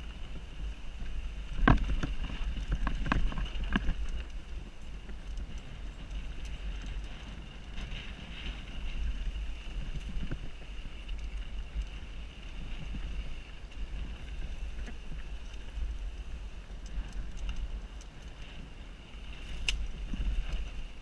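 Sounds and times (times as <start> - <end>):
bike clicks and rattles: 0.0 - 21.0
wind buffeting a camera: 0.0 - 21.0.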